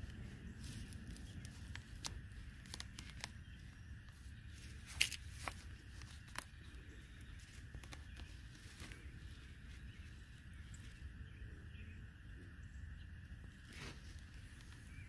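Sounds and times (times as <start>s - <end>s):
stick scraping dry soil: 0.0s - 11.1s, 13.5s - 15.0s.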